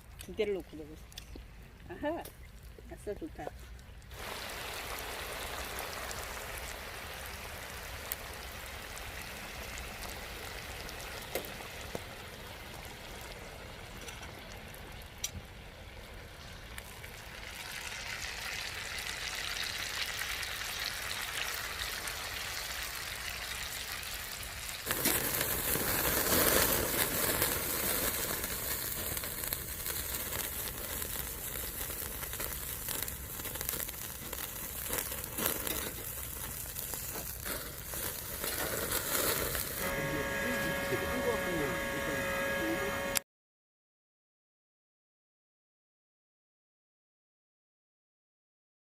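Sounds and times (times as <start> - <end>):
food sizzling in frying: 1.9 - 15.3, 16.3 - 43.2.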